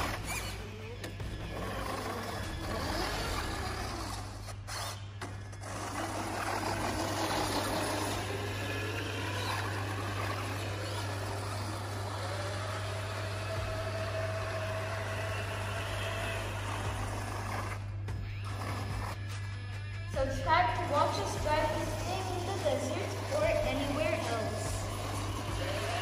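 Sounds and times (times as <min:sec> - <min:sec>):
electric motor and drivetrain whine: 0:00.0 - 0:26.0.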